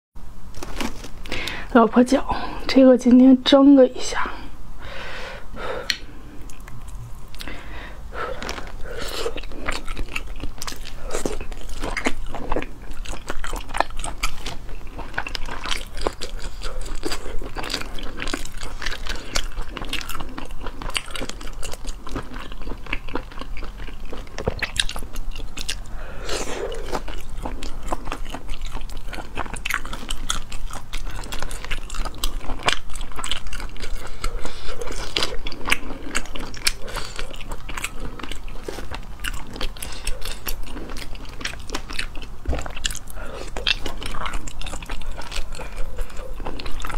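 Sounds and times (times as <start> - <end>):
wet crunchy chewing: 5.8 - 46.9.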